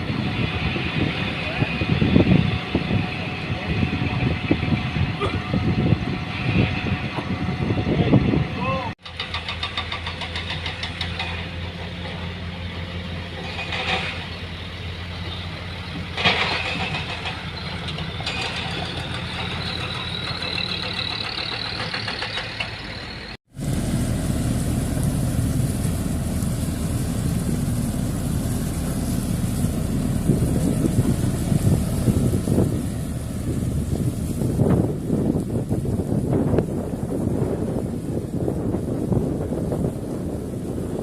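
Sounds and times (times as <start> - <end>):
heavy diesel engines running: 0.0 - 41.0
rough engine rumble: 0.0 - 41.0.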